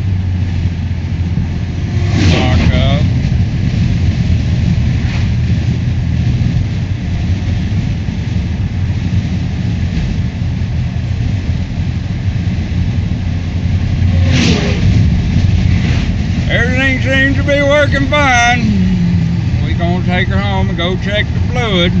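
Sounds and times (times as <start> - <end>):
car engine droning: 0.0 - 22.0
road noise: 0.0 - 22.0.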